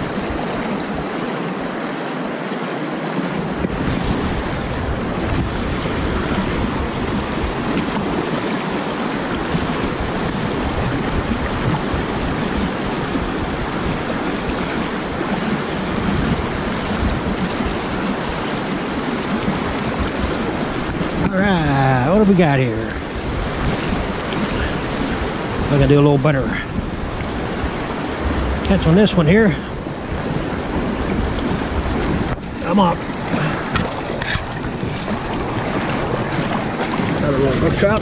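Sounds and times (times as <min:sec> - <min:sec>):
water rushing over spillway: 0:00.0 - 0:38.0
wind buffeting microphone: 0:03.3 - 0:38.0.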